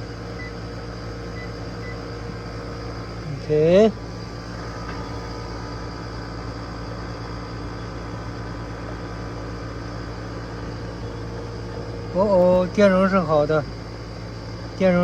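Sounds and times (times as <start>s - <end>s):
air conditioning hum: 0.0s - 15.0s.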